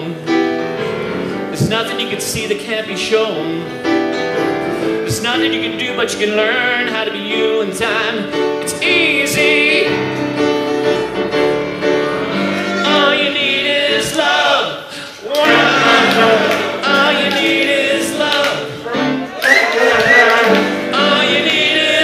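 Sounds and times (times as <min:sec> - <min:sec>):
man singing with vibrato: 0:00.0 - 0:00.5, 0:01.3 - 0:10.4, 0:12.5 - 0:22.0
grand piano: 0:00.0 - 0:22.0.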